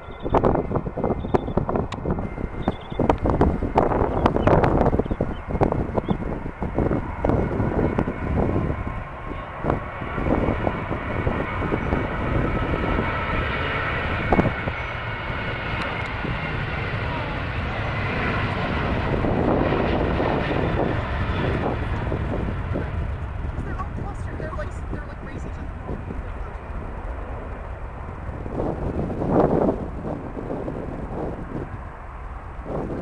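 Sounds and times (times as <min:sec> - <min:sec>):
jet engines roaring with fan whine: 0:00.0 - 0:33.0
wind buffeting microphone: 0:00.0 - 0:33.0.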